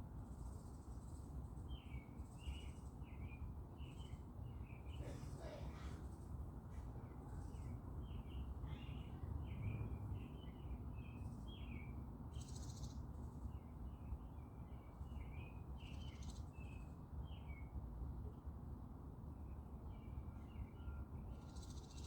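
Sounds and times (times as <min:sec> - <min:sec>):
small songbirds chirping: 0:00.0 - 0:17.8, 0:19.5 - 0:22.0.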